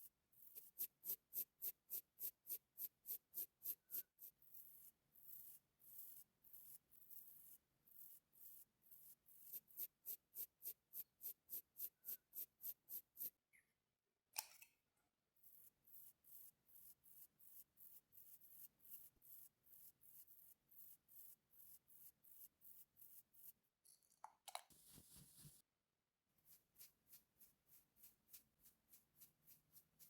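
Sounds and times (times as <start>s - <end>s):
makeup applicator scratching skin: 0.4s - 13.4s, 15.4s - 23.6s, 24.7s - 25.6s, 26.4s - 30.0s.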